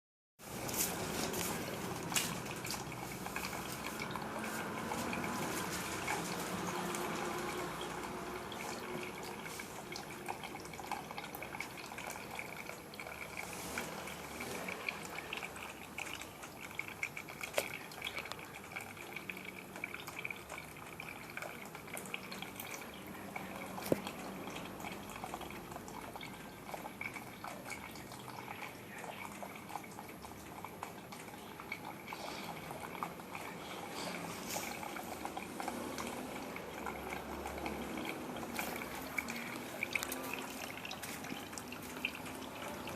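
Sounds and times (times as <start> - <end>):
water drips: 0.4 - 42.9
water fountain trickling: 0.4 - 42.9.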